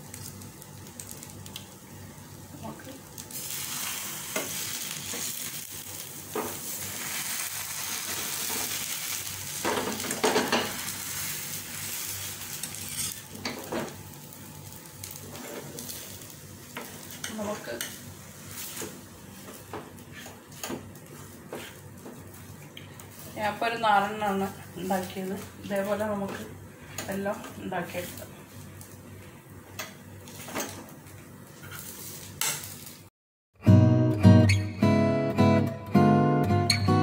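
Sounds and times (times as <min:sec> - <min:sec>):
batter sizzling in frying pan: 0:00.0 - 0:33.1.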